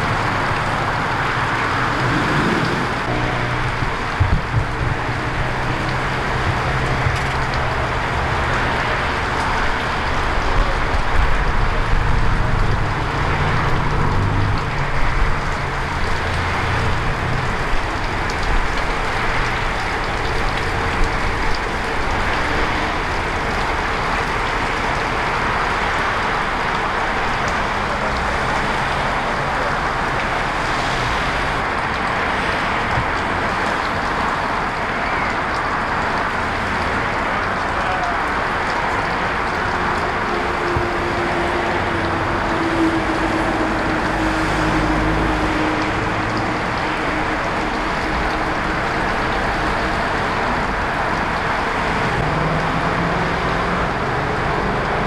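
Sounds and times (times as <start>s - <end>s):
tyres hissing on road: 0.0s - 55.0s.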